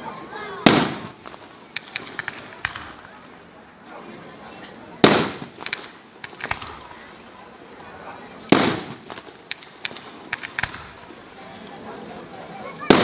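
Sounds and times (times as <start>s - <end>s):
firework sharp pops: 0.0s - 11.7s, 12.3s - 13.0s.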